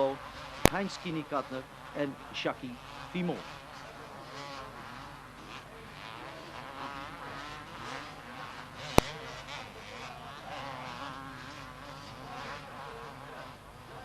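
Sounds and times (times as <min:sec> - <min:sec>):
motocross bike engines buzzing: 0:00.0 - 0:14.0.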